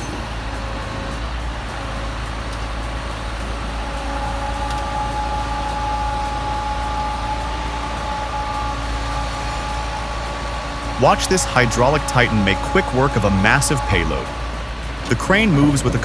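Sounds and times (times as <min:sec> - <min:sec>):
faint constant whine: 0:00.0 - 0:16.0
truck engine and road noise: 0:00.0 - 0:16.0.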